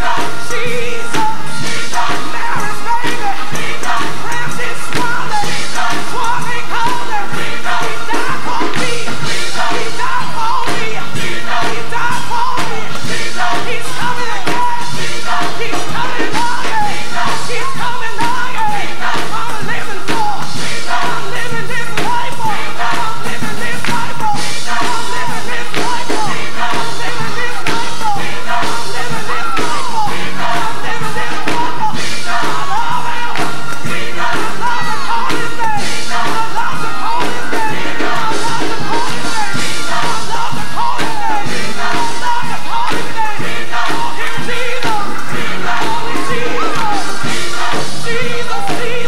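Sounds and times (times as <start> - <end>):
choir singing: 0.0 - 49.0
instrumental backing with beat: 0.0 - 49.0.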